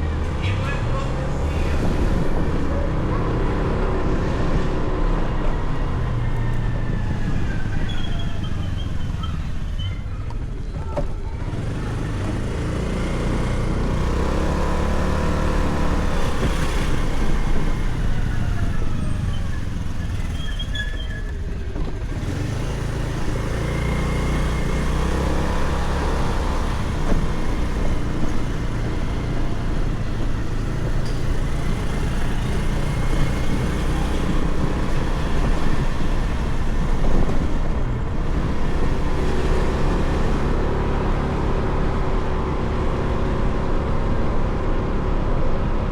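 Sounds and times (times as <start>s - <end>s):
motorcycle engine running: 0.0s - 45.3s
traffic: 0.0s - 45.9s.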